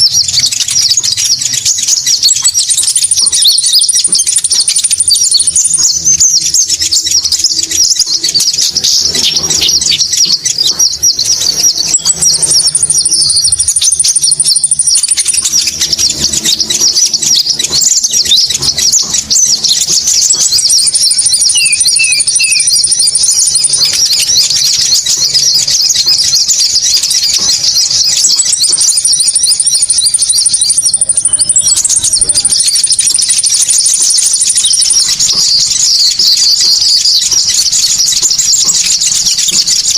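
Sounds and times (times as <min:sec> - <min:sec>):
rapid high bird chirping: 0:00.0 - 0:39.9
higher even bird trill: 0:02.7 - 0:35.0.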